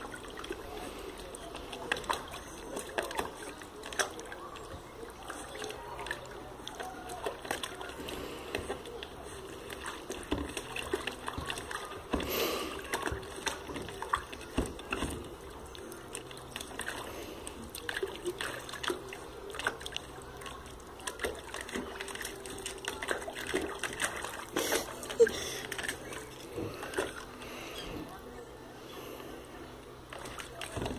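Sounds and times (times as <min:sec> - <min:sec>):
dog splashing water in a basin: 0:00.0 - 0:30.9.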